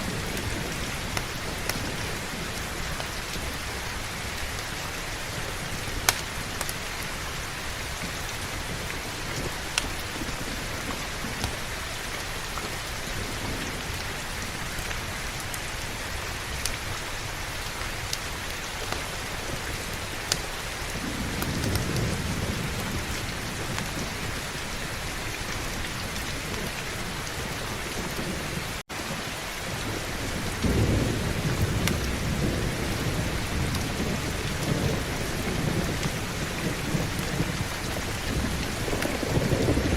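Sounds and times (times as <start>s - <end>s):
heavy rain pouring: 0.0s - 39.9s
thunder rumbling: 0.0s - 39.9s.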